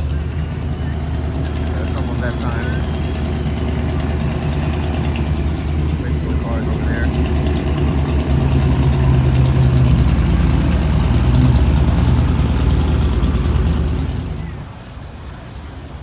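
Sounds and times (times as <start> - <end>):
car engine running: 0.0 - 14.7.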